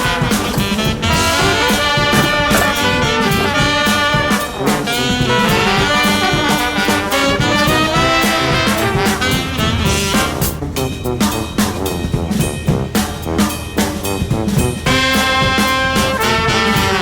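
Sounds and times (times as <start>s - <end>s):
swing jazz with brass horns: 0.0s - 17.0s.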